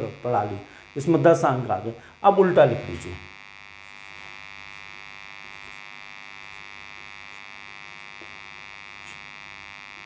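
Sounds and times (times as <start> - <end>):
mains hum: 0.0 - 10.0.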